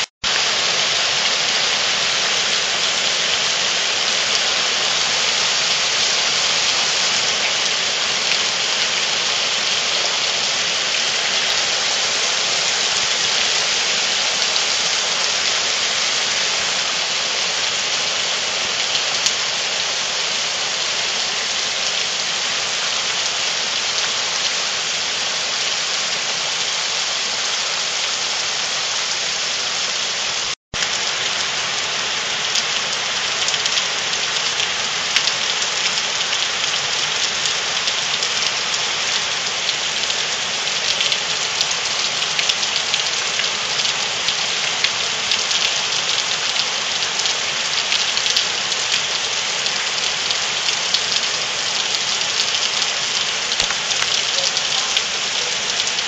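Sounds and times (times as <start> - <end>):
heavy rain on grass and leaves: 0.0 - 56.0.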